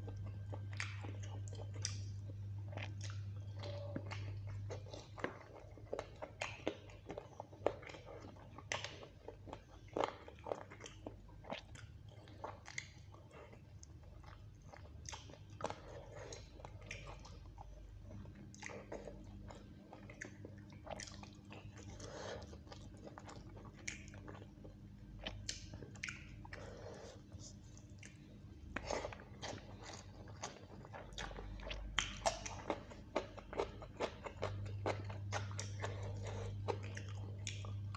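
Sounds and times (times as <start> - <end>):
chewing smacks and clicks: 0.1 - 37.9.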